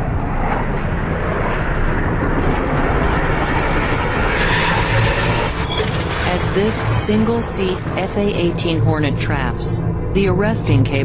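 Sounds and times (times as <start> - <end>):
aircraft engine roar: 0.0 - 11.0.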